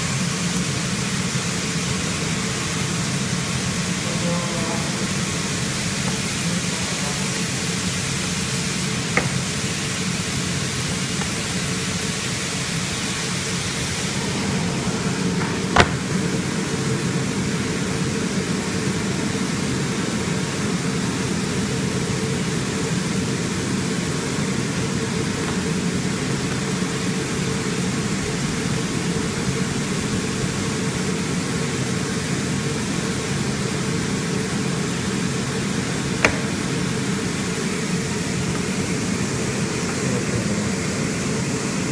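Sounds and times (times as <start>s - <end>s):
machine blower humming: 0.0s - 28.2s, 33.0s - 41.9s.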